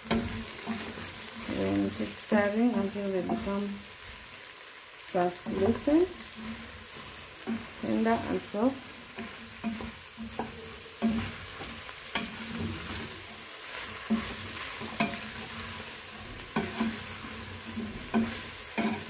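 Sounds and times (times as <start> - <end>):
spatula knocking and scraping pot: 0.0 - 3.8, 5.4 - 8.4, 9.0 - 19.0
frying sizzle: 0.0 - 19.0.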